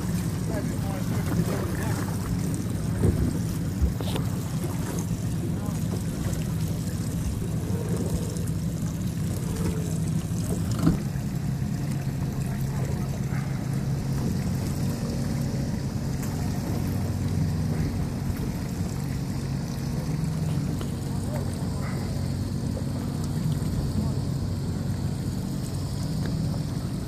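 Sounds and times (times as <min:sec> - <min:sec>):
boat engine idling: 0:00.0 - 0:27.0
water sloshing: 0:00.0 - 0:27.0.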